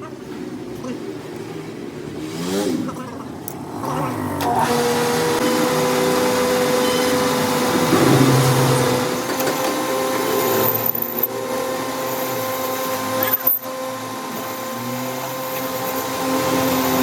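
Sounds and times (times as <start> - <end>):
power tool whining: 1.4 - 17.0.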